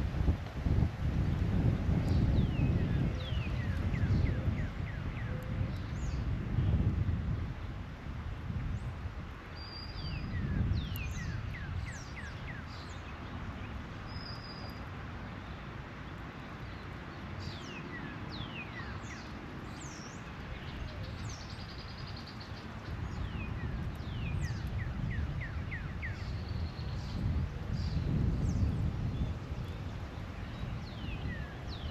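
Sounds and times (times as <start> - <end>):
wind rumble on microphone: 0.0 - 31.9.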